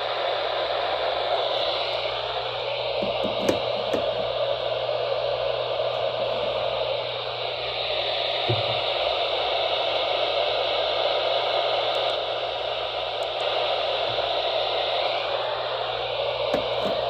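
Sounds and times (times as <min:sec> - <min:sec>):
radio static hiss: 0:00.0 - 0:17.0
low hum: 0:00.6 - 0:17.0.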